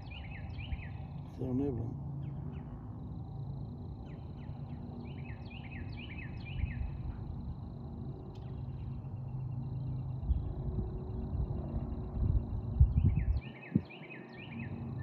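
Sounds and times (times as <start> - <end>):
bird song: 0.0 - 15.0.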